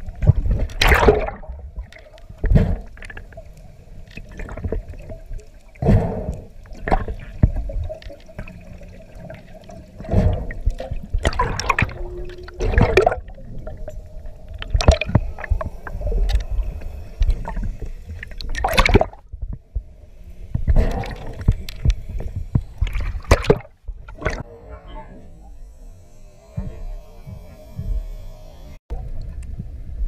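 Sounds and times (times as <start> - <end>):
underwater bubbles rushing: 0.0 - 25.1.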